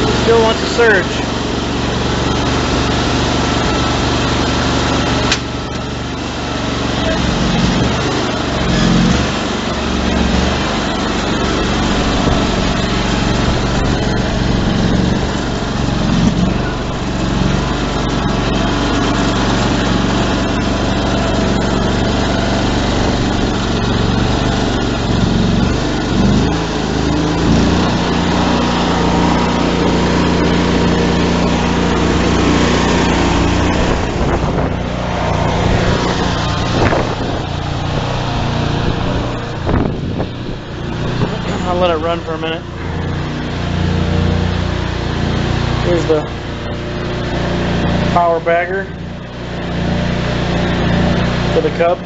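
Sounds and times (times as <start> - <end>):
garden tractor engine surging: 0.0 - 52.0.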